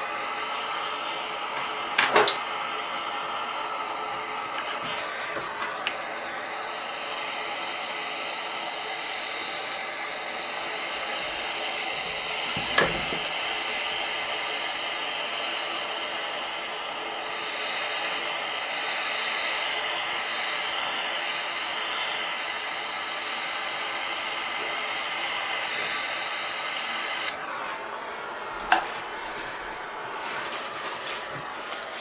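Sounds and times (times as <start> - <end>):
torch flame hissing: 0.0 - 32.0.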